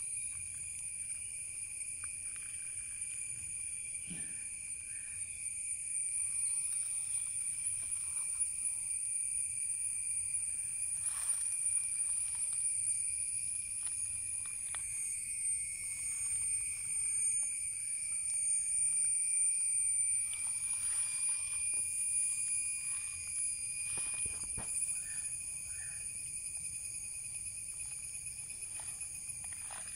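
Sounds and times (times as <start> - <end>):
insect chorus drone: 0.0 - 29.9.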